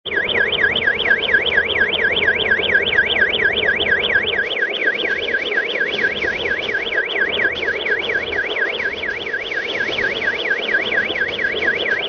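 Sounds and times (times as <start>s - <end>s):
electronic warble siren: 0.1s - 12.0s.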